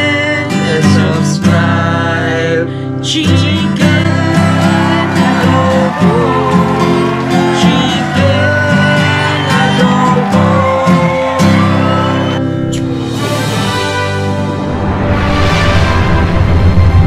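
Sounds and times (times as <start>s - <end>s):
person singing: 0.0s - 14.1s
acoustic guitar strumming: 0.0s - 15.0s.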